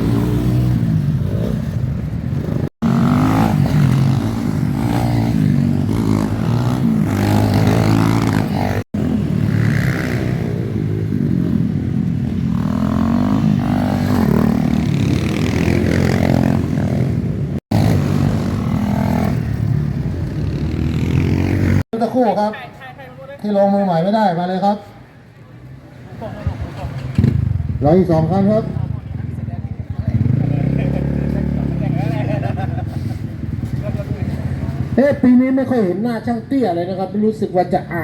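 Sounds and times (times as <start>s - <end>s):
motocross bike engines revving: 0.0s - 21.9s, 26.0s - 38.0s.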